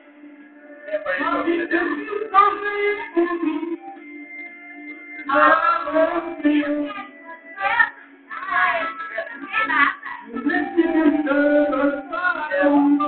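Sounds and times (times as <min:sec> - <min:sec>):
karaoke backing music: 0:00.0 - 0:13.0.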